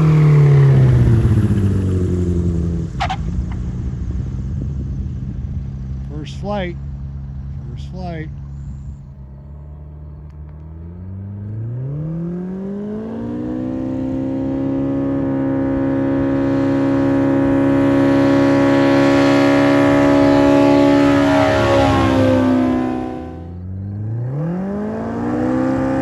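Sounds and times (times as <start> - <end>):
light aircraft engine revving up: 0.0 - 12.6, 15.2 - 24.0.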